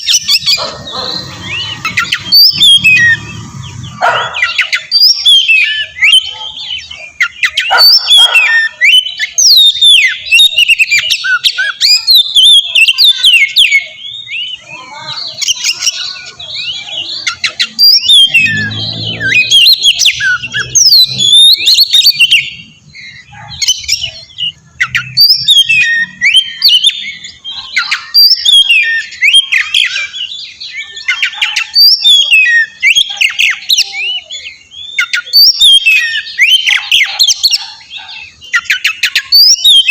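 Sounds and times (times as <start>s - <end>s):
bird singing whistles and scratchy notes: 0.0s - 39.9s.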